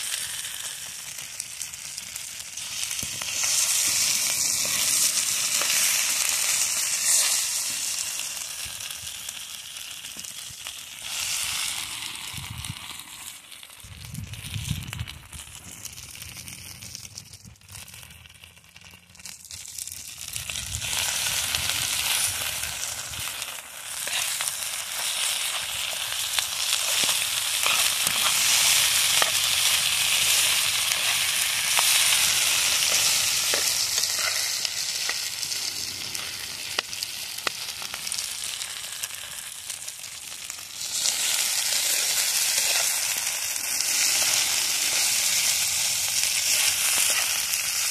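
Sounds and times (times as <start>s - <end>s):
food sizzling in a skillet: 0.0s - 47.9s.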